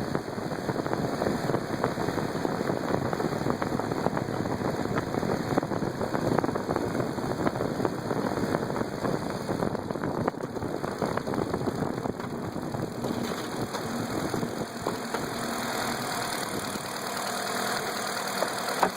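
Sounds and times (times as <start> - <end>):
engine idling with knocking: 0.0 - 18.9.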